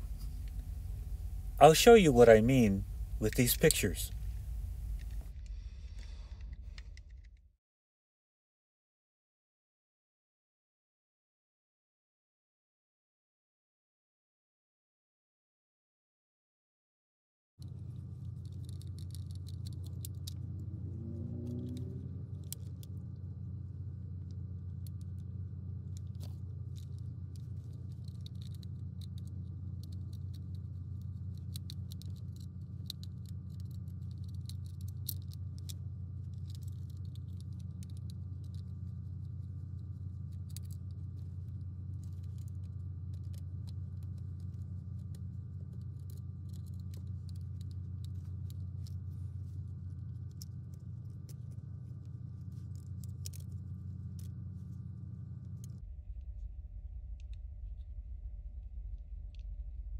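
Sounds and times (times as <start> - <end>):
steady low hum: 0.0 - 7.6, 17.6 - 59.9.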